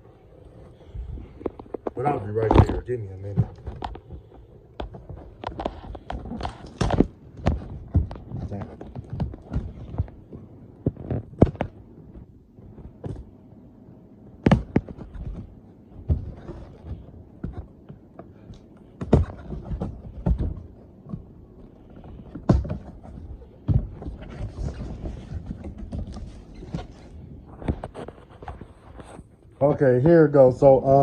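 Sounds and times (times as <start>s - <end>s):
thumps and knocks: 1.3s - 13.4s, 14.3s - 29.2s.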